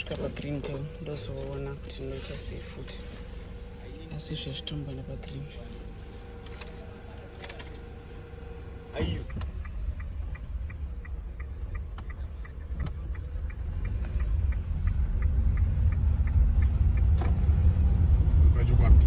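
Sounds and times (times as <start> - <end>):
engine and road rumble: 0.0 - 19.0
turn signal ticking: 0.0 - 19.0.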